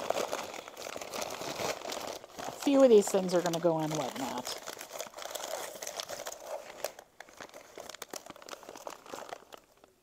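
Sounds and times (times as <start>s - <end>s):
wrapping crinkling: 0.0s - 10.0s.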